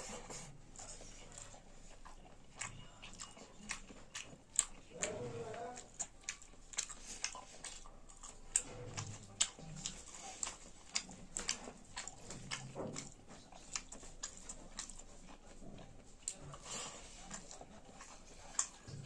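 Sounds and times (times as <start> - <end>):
person chewing and smacking: 0.0 - 19.0.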